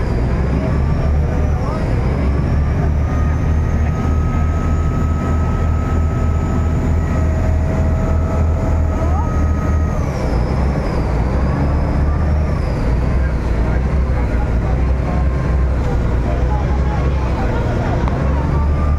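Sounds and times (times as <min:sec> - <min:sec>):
boat engine droning: 0:00.0 - 0:18.9
water rushing along hull: 0:00.0 - 0:18.9.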